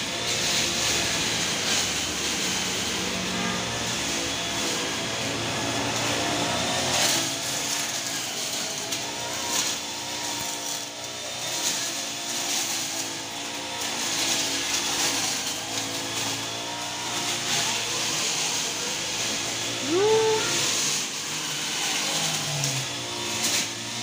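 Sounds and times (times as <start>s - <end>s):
brush cutter engine cutting grass: 0.0s - 24.0s.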